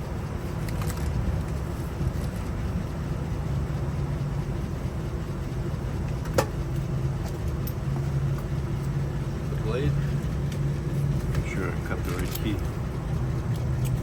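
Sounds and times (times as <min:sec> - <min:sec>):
engine running with low rumble: 0:00.0 - 0:14.0.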